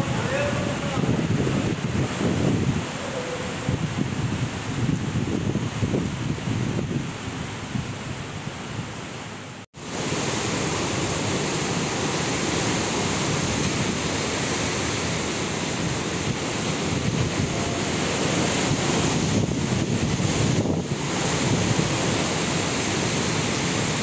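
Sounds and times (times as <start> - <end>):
wind buffeting microphone: 0.0 - 9.0, 9.8 - 24.0
heavy rain: 0.0 - 24.0
strong wind: 0.0 - 24.0.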